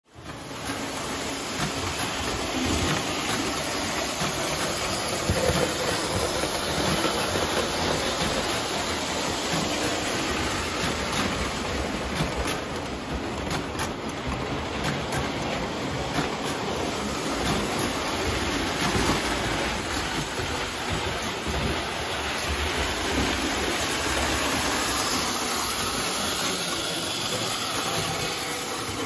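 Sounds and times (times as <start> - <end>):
model train rumbling on track: 0.1 - 29.0.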